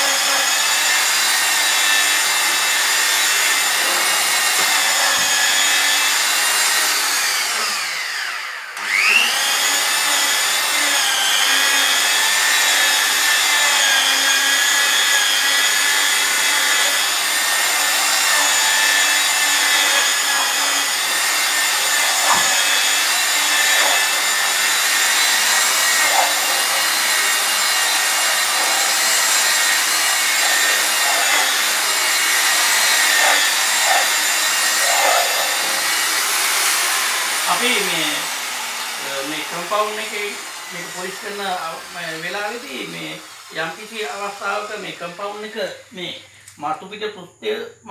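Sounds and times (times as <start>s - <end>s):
rotary car polisher whining: 0.0s - 45.9s.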